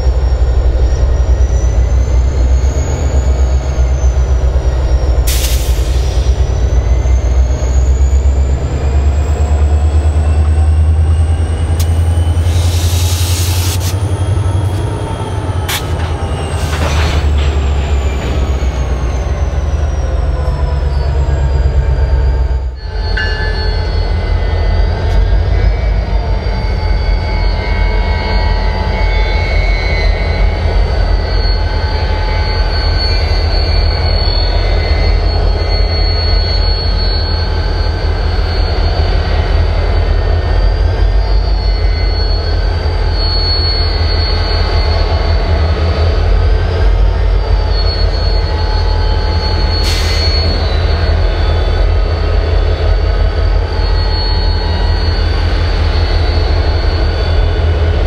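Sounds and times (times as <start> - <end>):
high-pitched wheel squeal: 0.0 - 58.0
train engine rumble: 0.0 - 58.0.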